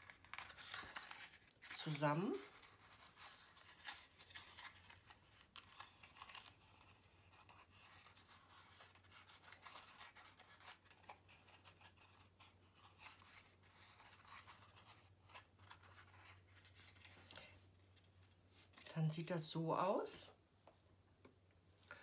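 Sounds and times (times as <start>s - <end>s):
paper rustling and crinkling: 0.0s - 18.9s.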